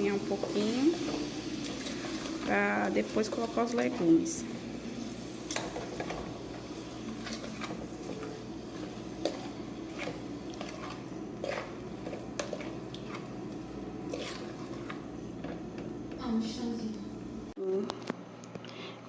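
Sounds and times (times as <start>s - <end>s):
meat sizzling in a pot: 0.0s - 15.7s.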